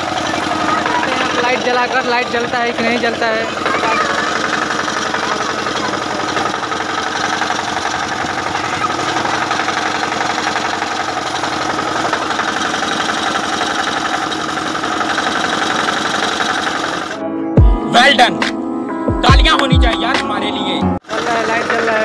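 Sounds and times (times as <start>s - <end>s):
diesel generator engine running: 0.0s - 18.5s, 19.3s - 22.0s.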